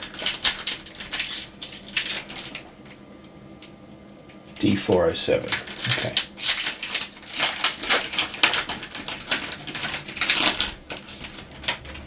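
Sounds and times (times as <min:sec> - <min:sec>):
foil wrapper tearing and crinkling: 0:00.0 - 0:03.0, 0:04.6 - 0:12.0.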